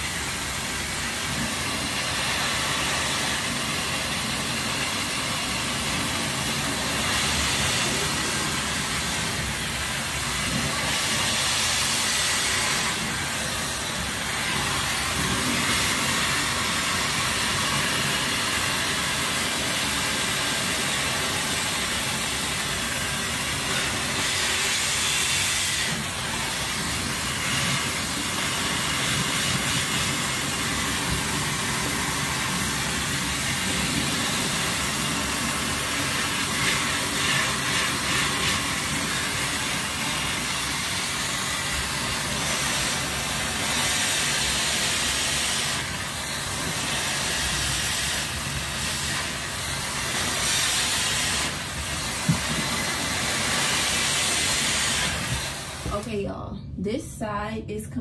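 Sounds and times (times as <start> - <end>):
hair dryer running: 0.0 - 56.2.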